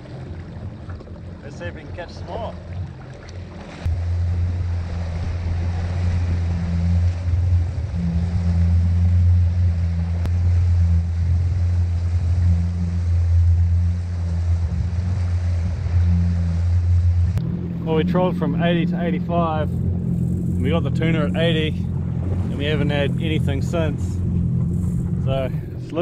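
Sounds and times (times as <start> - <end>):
jet ski engine droning: 0.0 - 26.0
water washing along hull: 0.0 - 26.0.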